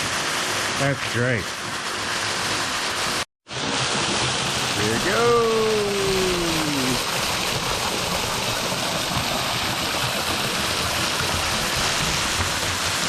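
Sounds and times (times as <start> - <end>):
waterfall pouring into creek: 0.0 - 13.0.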